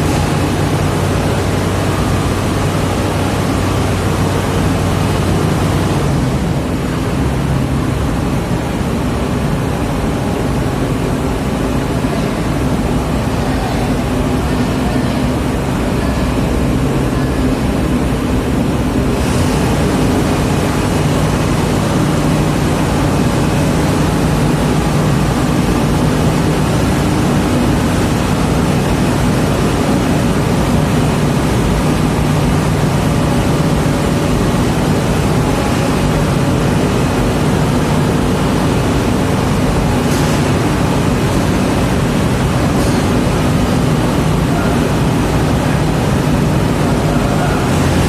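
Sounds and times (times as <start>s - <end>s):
large diesel engine running: 0.0s - 48.0s.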